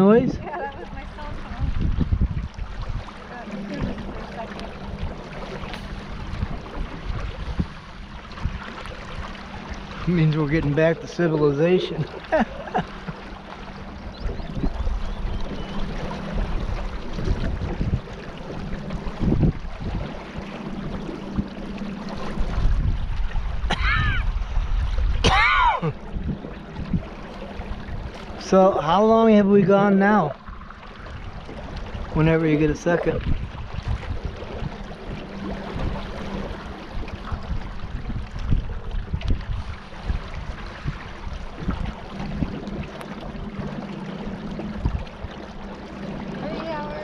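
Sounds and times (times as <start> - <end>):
steady low hum: 0.0 - 47.0
water noise: 0.0 - 47.0
wind: 0.0 - 47.0.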